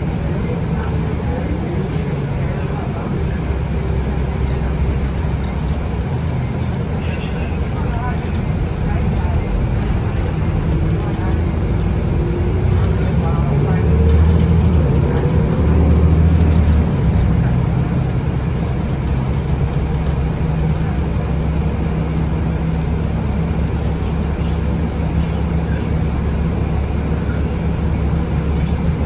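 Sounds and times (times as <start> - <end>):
bus diesel engine: 0.0 - 29.0
tyres on road: 0.0 - 29.0.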